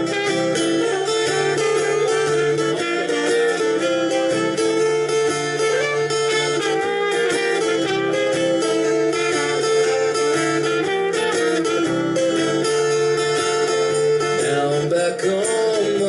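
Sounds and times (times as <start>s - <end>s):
melody instrument holding long notes: 0.0s - 14.5s
acoustic guitar strumming chords: 0.0s - 16.0s.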